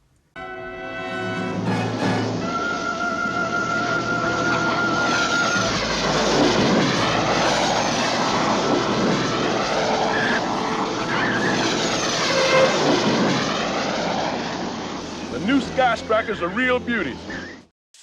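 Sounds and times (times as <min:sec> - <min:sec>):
jet aircraft roaring past: 0:00.4 - 0:17.7.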